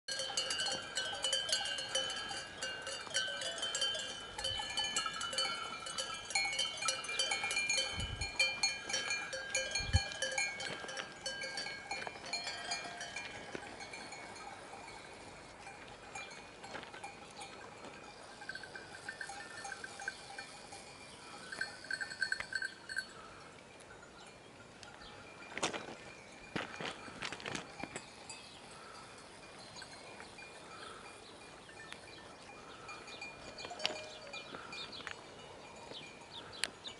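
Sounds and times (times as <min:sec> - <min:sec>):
goat bells clanking: 0:00.1 - 0:36.9.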